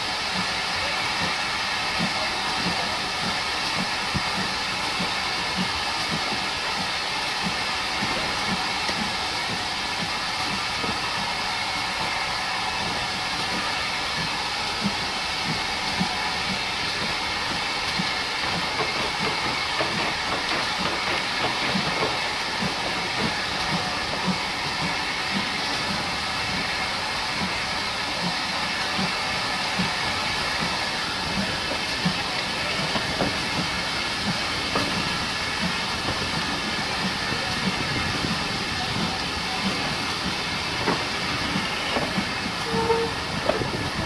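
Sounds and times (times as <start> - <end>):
steam train hissing: 0.0 - 44.0.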